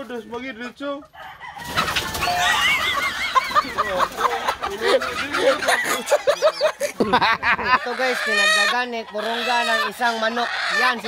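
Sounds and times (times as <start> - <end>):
chicken squawking in alarm: 1.0 - 6.8, 7.6 - 11.0.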